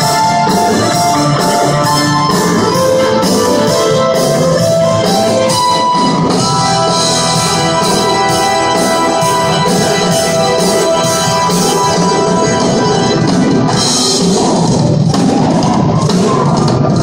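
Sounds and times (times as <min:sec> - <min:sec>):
live rock band playing: 0:00.0 - 0:17.0
organ-like keyboard chords: 0:00.0 - 0:17.0.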